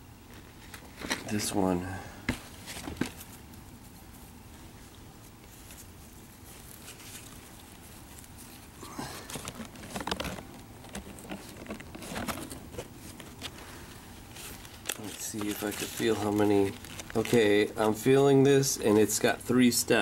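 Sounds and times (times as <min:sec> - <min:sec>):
low background noise: 0:00.0 - 0:20.0
leaves rustling as plant is handled: 0:02.5 - 0:20.0.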